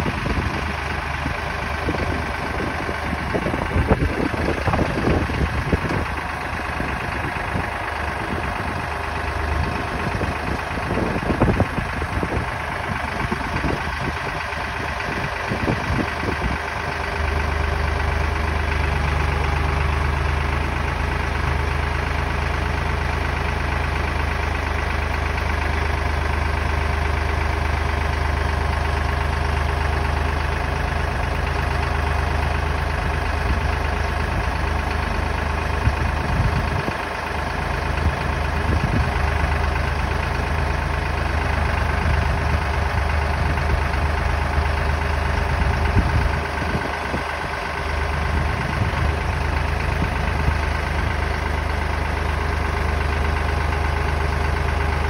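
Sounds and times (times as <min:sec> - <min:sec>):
engine humming steadily: 0:00.0 - 0:55.0.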